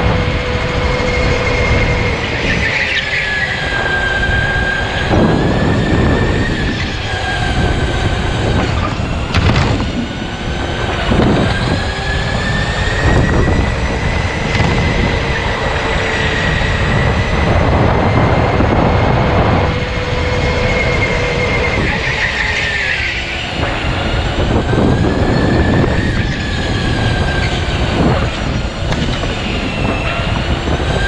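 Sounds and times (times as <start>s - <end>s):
electric go-kart motor whining: 0.0s - 31.0s
tyre and track noise: 0.0s - 31.0s.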